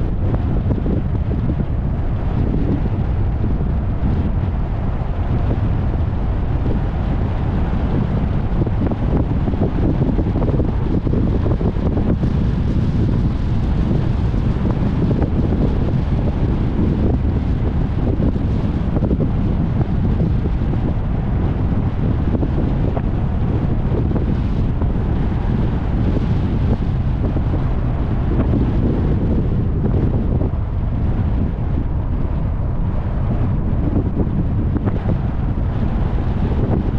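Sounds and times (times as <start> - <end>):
road noise: 0.0 - 36.9
wind buffeting microphone: 0.0 - 36.9.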